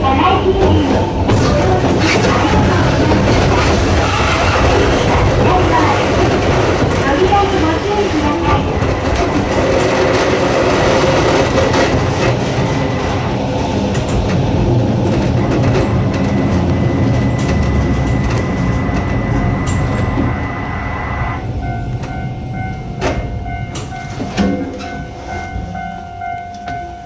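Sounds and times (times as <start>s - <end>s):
wheels clattering on rails: 0.0s - 20.4s, 21.4s - 27.0s
electric train motors droning: 0.0s - 27.0s.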